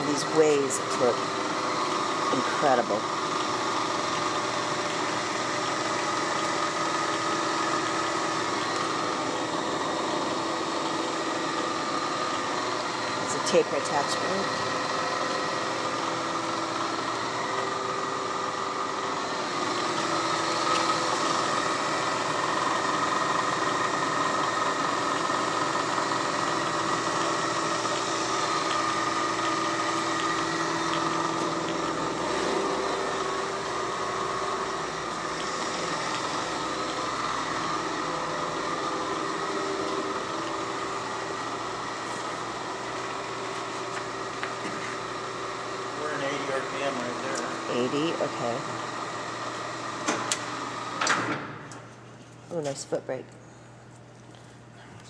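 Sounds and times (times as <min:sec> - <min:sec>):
lathe whirring and whining: 0:00.0 - 0:52.4.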